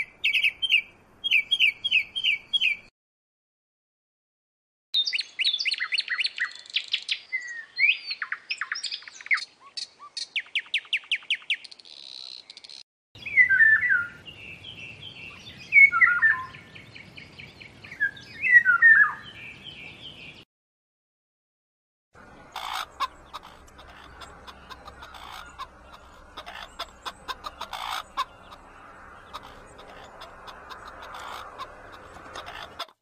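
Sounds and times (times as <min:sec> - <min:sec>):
songbirds singing: 0:00.0 - 0:02.9, 0:05.0 - 0:20.4, 0:22.2 - 0:33.0.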